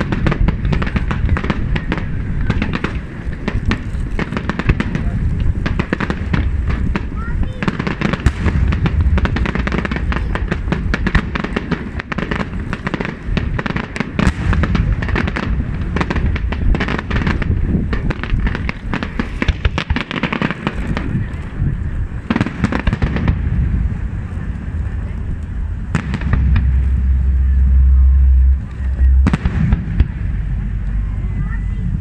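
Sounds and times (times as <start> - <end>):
deep fireworks booms: 0.0 - 32.0
fireworks crackling and popping: 0.0 - 32.0.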